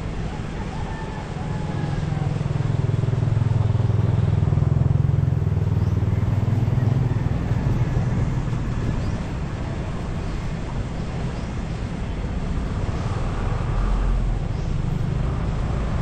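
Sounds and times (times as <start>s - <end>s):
motorcycle passing by: 0.0s - 16.0s.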